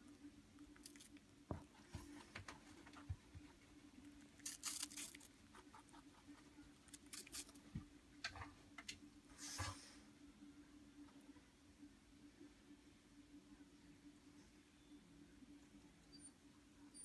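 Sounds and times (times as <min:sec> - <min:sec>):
rabbit chewing and crunching apple: 0:00.0 - 0:16.2
faint steady hum: 0:00.0 - 0:17.0.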